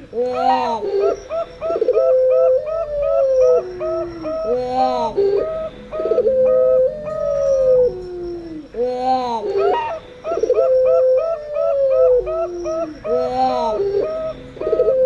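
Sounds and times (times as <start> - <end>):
long falling dove coo: 0.0 - 15.0.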